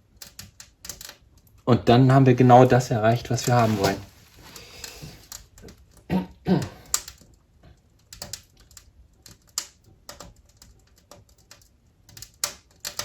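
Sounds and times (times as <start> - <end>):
wood fire crackling in stove: 0.0 - 13.0.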